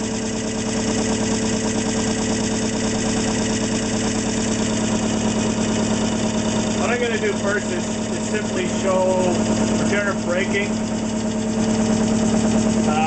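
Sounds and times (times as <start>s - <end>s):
fast mechanical chatter: 0.0s - 13.0s
generator motor humming: 0.0s - 13.0s.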